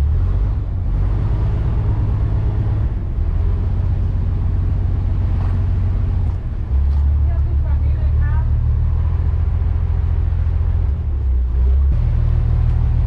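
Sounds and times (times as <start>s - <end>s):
ferry engine drone: 0.0s - 13.0s.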